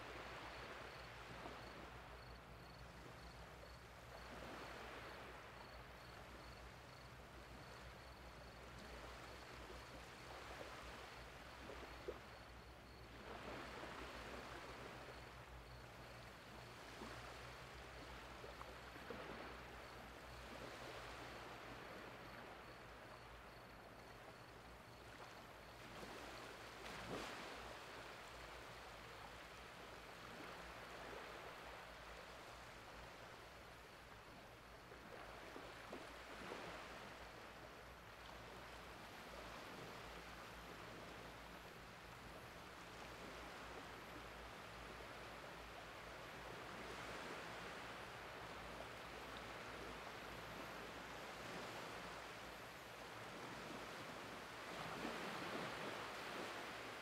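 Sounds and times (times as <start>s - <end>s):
gentle waves lapping on beach: 0.0s - 57.0s.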